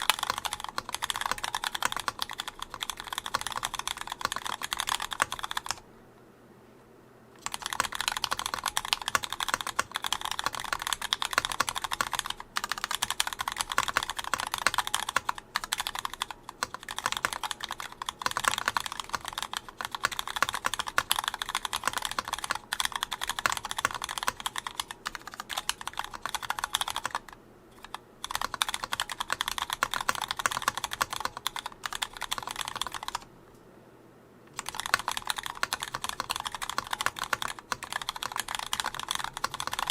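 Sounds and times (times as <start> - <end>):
rapid keyboard key clacks: 0.0 - 5.8, 7.4 - 33.3, 34.5 - 39.9.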